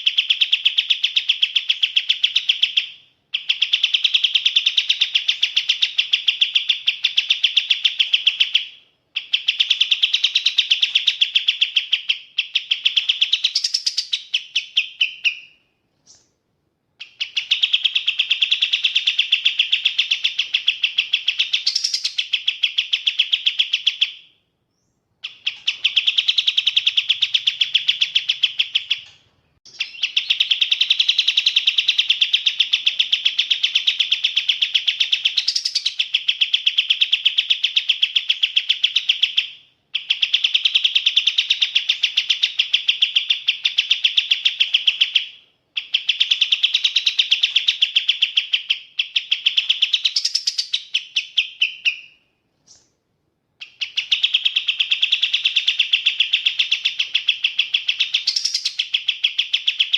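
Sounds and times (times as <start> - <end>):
bird chattering trill: 0.0 - 16.3, 17.0 - 52.9, 53.6 - 59.9.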